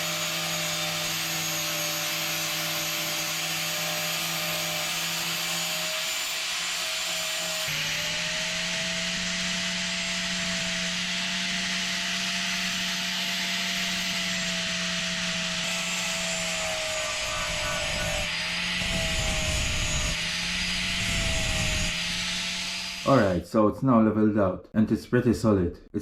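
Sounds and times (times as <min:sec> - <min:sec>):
angle grinder grinding metal: 0:00.0 - 0:23.4.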